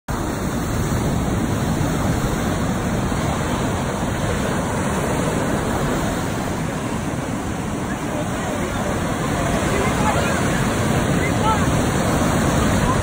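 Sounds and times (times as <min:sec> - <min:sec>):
ocean surf breaking: 0:00.1 - 0:13.0.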